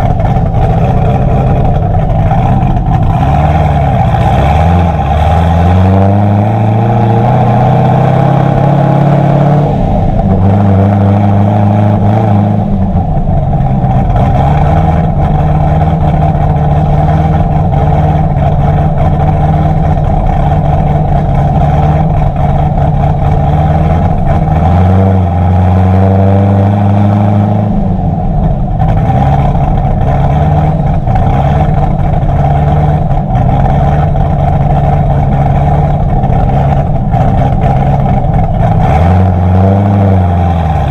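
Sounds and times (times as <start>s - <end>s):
car engine exhaust revving: 0.0s - 40.9s.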